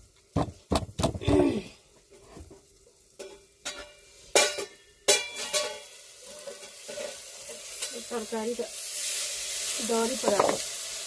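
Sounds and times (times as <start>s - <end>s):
sizzling in a frying pan: 0.0s - 11.0s.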